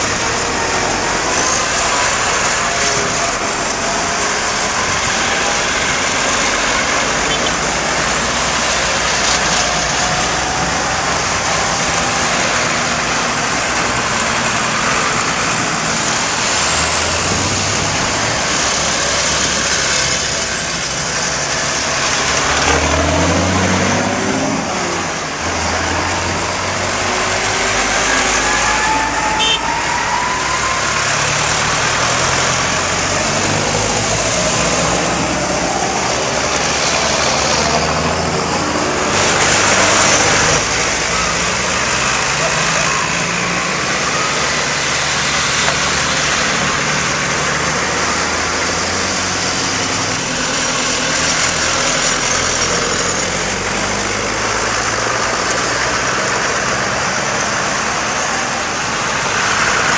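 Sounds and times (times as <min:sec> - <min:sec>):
tractor engines driving past: 0:00.0 - 0:59.9.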